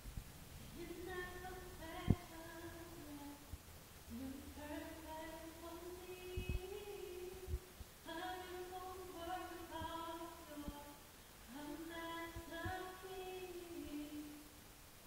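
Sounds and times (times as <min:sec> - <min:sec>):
woman singing a cappella: 0:00.8 - 0:14.6.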